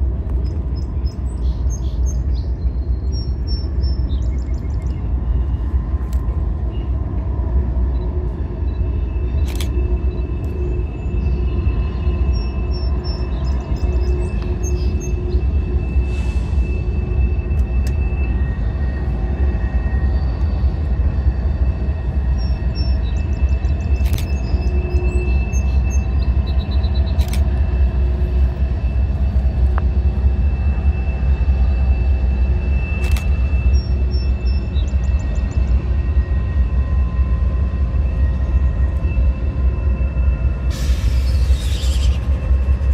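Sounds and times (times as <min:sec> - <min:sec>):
train rolling past: 0:00.0 - 0:42.9.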